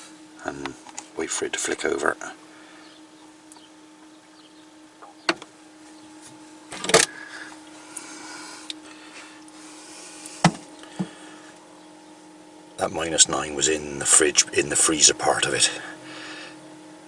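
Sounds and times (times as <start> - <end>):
fans humming: 0.0 - 17.0.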